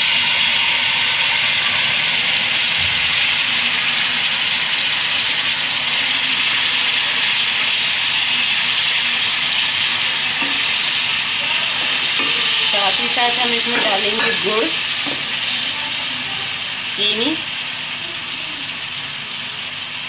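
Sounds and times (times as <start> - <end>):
pulp sizzling in hot oil: 0.0 - 20.0.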